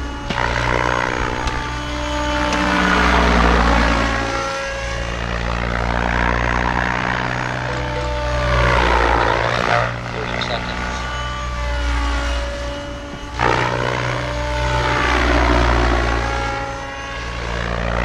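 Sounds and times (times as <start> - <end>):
rc helicopter motor whine and rotors: 0.0 - 18.0.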